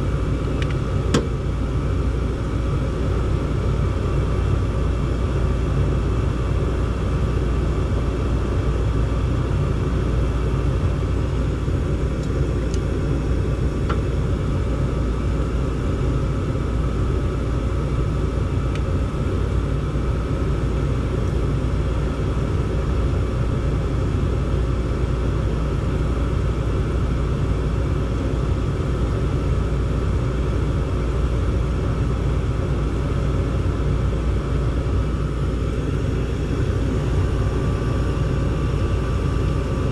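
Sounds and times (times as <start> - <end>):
faint steady whine: 0.0 - 39.9
gas furnace rumbling: 0.0 - 39.9.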